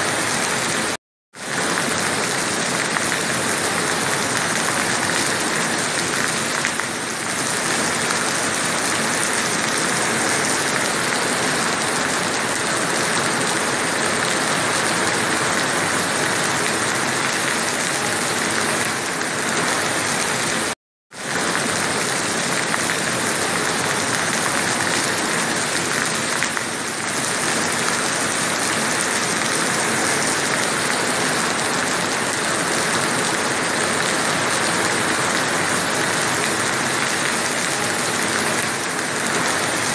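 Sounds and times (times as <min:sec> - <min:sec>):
rain falling on sea and beach: 0:00.0 - 0:39.9.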